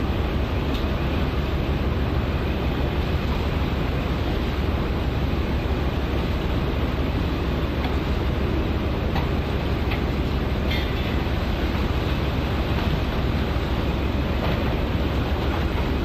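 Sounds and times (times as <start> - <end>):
sea noise: 0.0 - 16.0.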